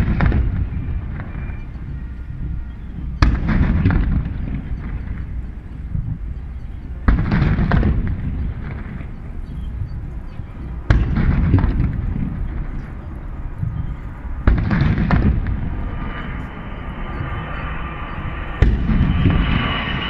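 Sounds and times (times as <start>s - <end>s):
cannon bangs with rumbling echo: 0.0s - 20.0s.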